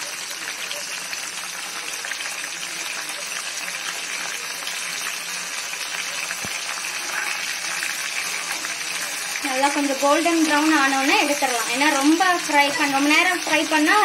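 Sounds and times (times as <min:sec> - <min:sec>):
prawns deep-frying in oil: 0:00.0 - 0:14.0.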